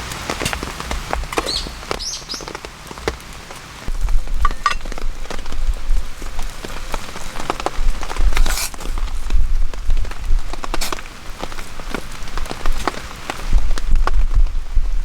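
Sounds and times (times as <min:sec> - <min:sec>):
rain falling: 0:00.0 - 0:15.0
raindrops ticking on a surface: 0:00.0 - 0:15.0.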